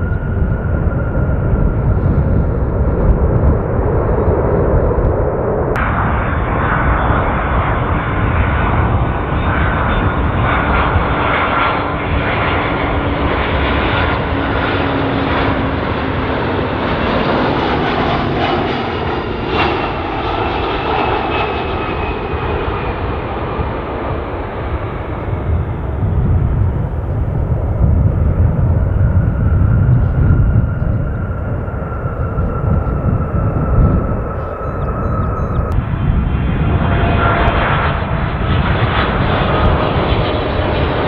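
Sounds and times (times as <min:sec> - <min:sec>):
jet airliner engine roar: 0:00.0 - 0:41.0.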